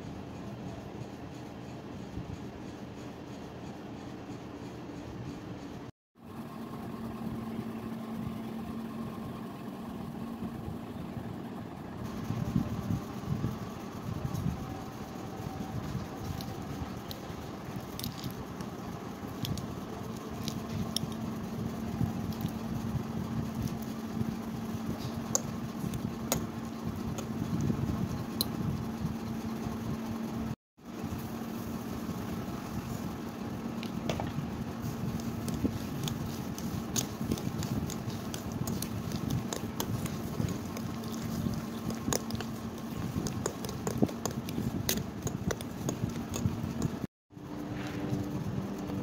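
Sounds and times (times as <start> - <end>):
low rumble with hum: 0.0 - 49.0.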